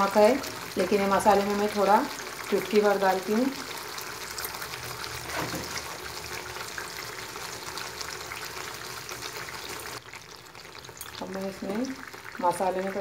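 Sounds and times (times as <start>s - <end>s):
masala sizzling with crackling: 0.0s - 13.0s.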